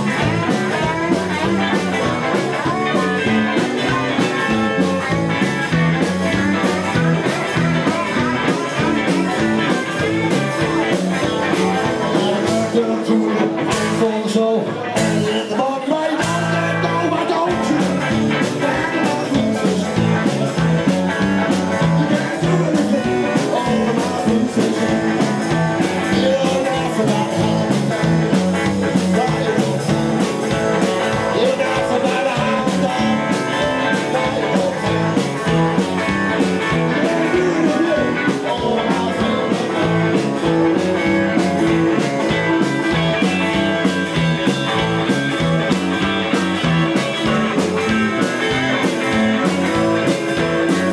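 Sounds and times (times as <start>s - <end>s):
man singing: 0.0s - 50.9s
rock band playing: 0.0s - 50.9s.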